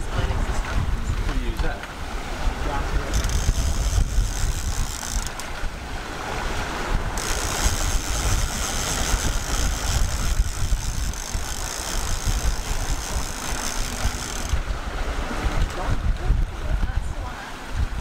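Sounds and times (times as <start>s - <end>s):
sea rushing: 0.0s - 18.0s
wind buffeting microphone: 0.0s - 18.0s.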